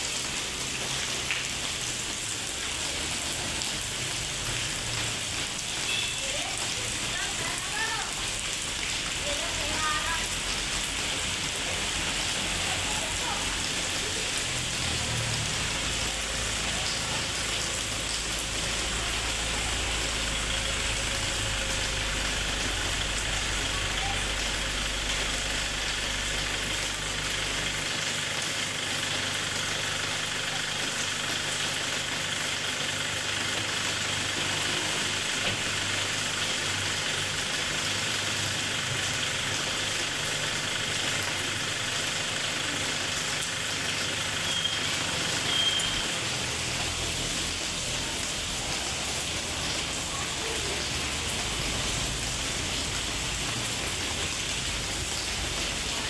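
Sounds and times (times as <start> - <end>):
steady rain falling: 0.0 - 56.0
vehicle engine running: 9.1 - 56.0.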